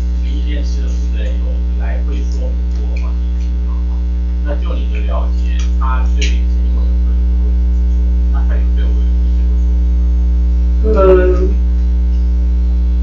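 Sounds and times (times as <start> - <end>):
electrical mains hum: 0.0 - 13.0
faint voices: 0.0 - 13.0.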